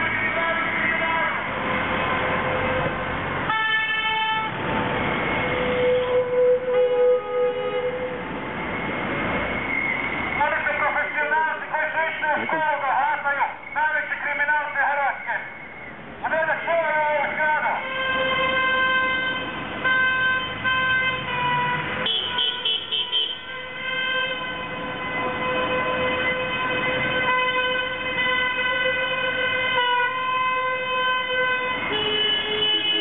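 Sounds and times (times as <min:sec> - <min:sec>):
car horns honking: 0:00.0 - 0:15.7, 0:16.4 - 0:33.0.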